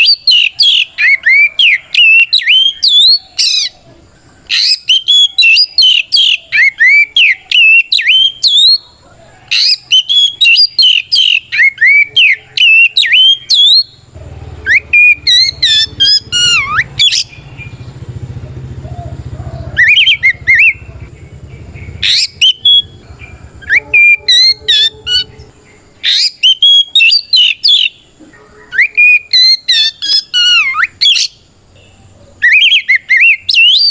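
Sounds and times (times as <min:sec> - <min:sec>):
bird singing sweeping whistles: 0:00.0 - 0:03.8, 0:04.4 - 0:08.9, 0:09.6 - 0:17.9, 0:19.8 - 0:20.9, 0:21.7 - 0:28.0, 0:28.7 - 0:31.4, 0:32.4 - 0:33.9.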